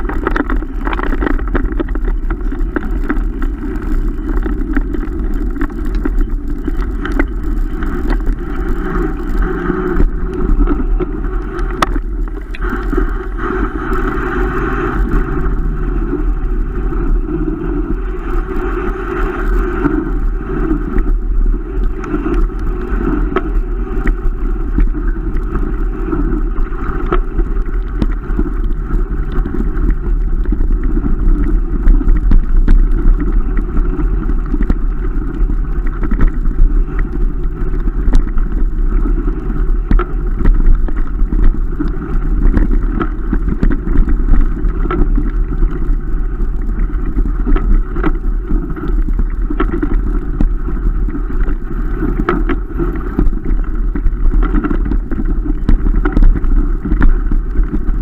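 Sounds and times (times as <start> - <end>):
rushing air: 0.0 - 49.8
bike knocking and rattling: 0.0 - 58.0
tyres rumbling on dirt trail: 0.0 - 58.0.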